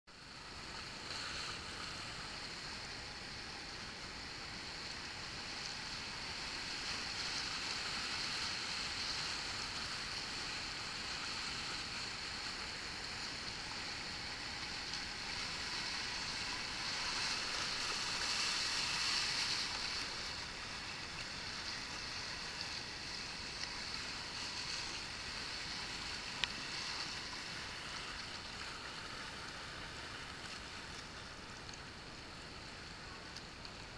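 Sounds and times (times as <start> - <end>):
river rapids rushing: 0.3 - 33.9.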